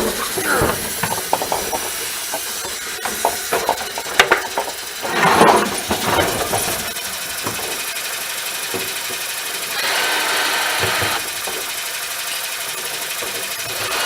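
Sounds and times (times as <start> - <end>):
hand tools clicking and knocking: 0.0 - 14.0.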